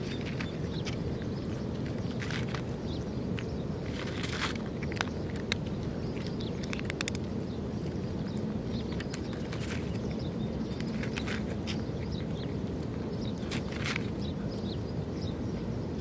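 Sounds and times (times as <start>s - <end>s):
cat crunching dry kibble: 0.0s - 14.2s
low background rumble: 0.0s - 16.0s.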